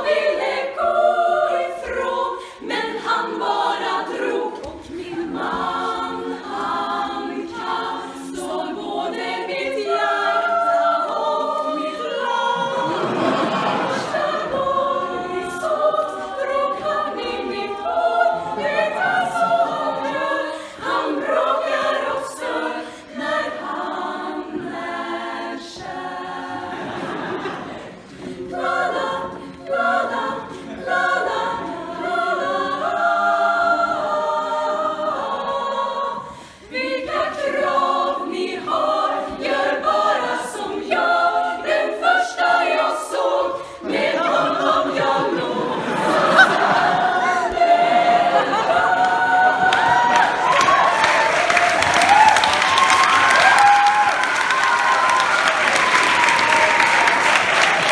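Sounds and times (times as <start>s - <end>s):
women's choir singing: 0.0s - 57.9s.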